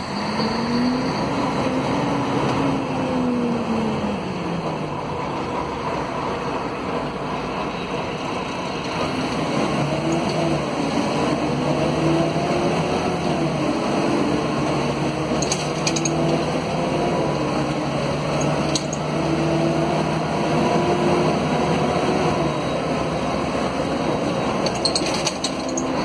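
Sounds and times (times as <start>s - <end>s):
bus diesel engine accelerating: 0.0s - 26.0s.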